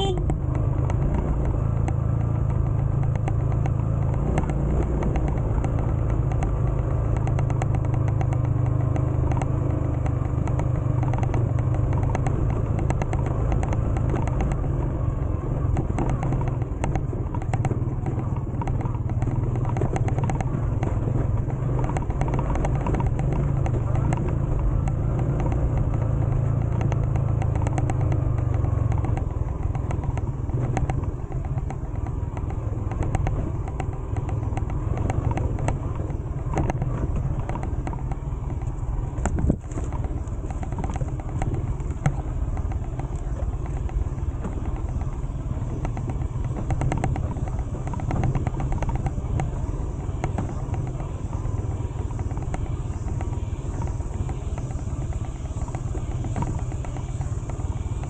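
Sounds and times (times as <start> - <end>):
knocks and rattles: 0.0 - 58.0
motorcycle engine rumbling: 0.0 - 58.0.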